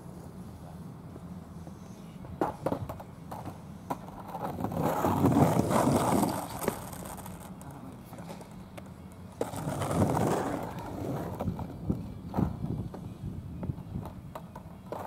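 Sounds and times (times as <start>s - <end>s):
skateboard wheels rolling on asphalt: 0.0s - 15.0s
skateboard clacks: 2.2s - 15.0s.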